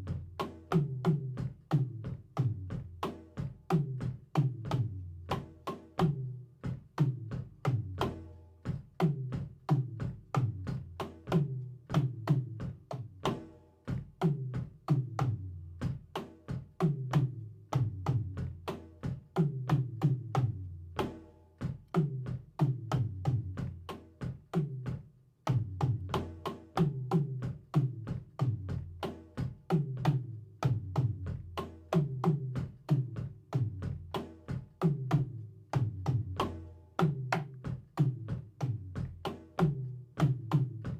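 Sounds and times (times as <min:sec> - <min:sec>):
drum kit groove: 0:00.0 - 0:40.9.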